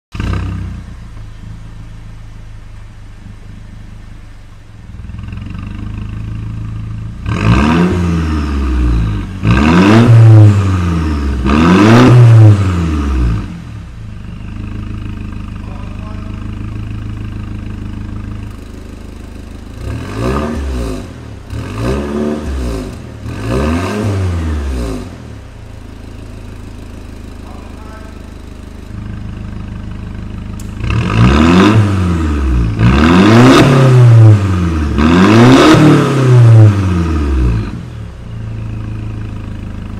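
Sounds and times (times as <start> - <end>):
car engine idling: 0.1 - 39.9
car engine revving: 0.1 - 39.9.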